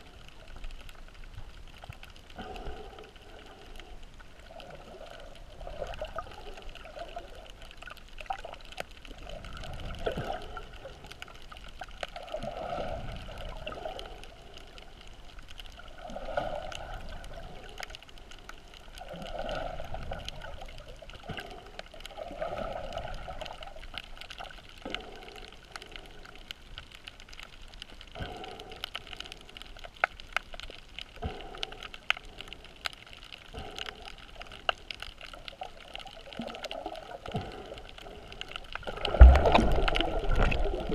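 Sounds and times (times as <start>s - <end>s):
muffled underwater sloshing: 0.0s - 40.9s.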